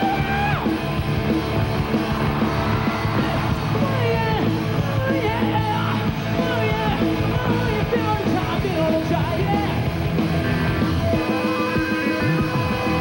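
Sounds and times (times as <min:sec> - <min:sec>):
electric guitar lead: 0:00.0 - 0:13.0
rock band playing live: 0:00.0 - 0:13.0.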